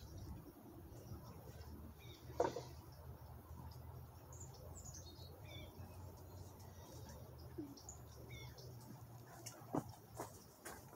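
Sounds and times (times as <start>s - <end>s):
faint bird chirps: 0.0s - 9.4s.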